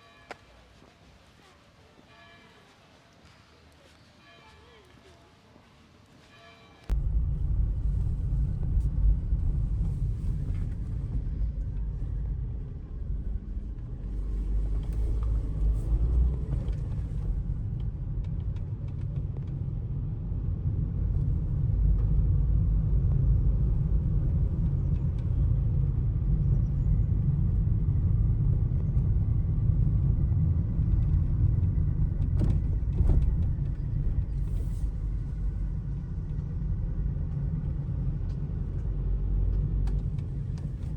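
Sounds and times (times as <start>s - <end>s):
steady deep rumble: 6.9s - 40.9s.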